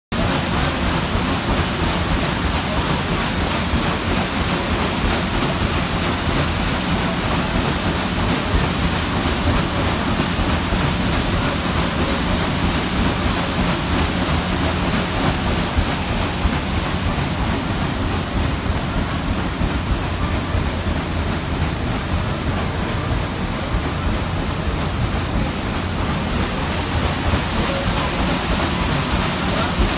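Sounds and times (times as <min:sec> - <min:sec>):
paddle wheel churning water: 0:00.1 - 0:29.9.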